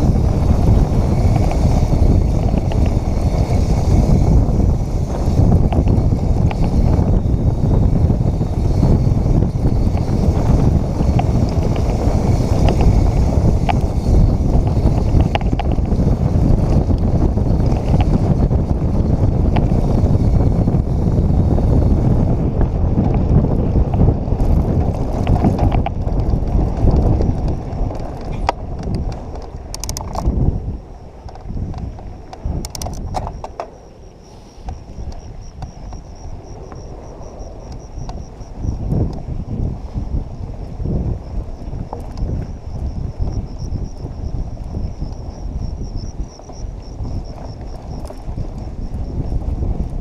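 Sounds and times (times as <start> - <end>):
bike clicks and rattles: 0.0 - 50.0
bike tyres on dirt trail: 0.0 - 50.0
wind rumble on microphone: 0.0 - 50.0.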